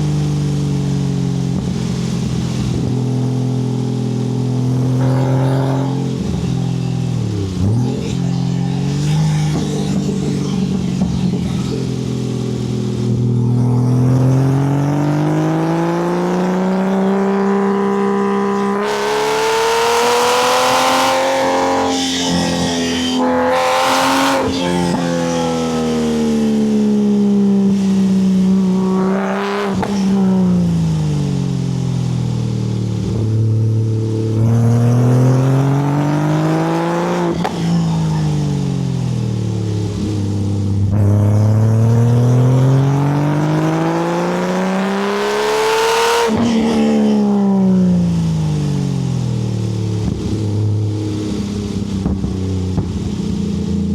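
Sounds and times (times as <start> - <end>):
car engine revving hard: 0.0 - 53.9
bursts of rushing noise: 4.2 - 16.0, 17.9 - 53.9.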